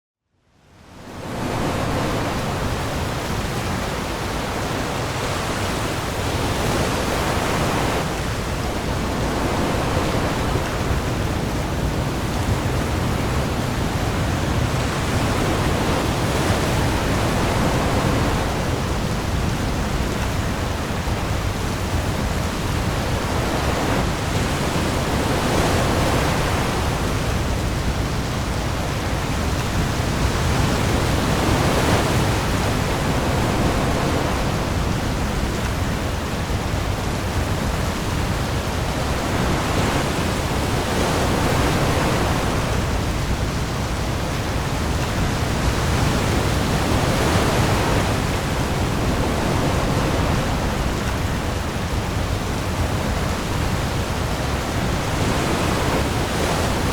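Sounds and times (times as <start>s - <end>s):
waves washing in: 0.7s - 56.9s.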